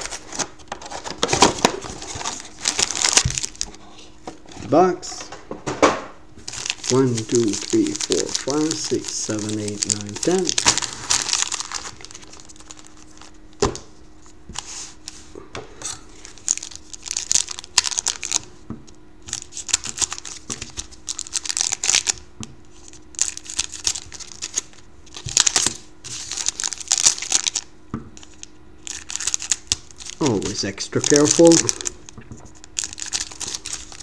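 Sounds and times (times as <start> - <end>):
foil wrappers crinkling: 0.0 - 3.9, 6.4 - 15.3, 16.1 - 18.6, 19.2 - 34.0.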